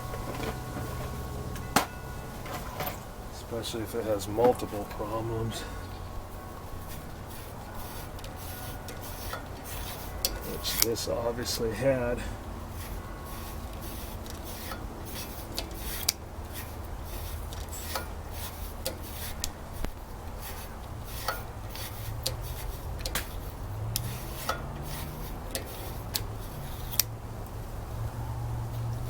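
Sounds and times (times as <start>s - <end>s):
hand scraping on metal: 0.0s - 27.1s.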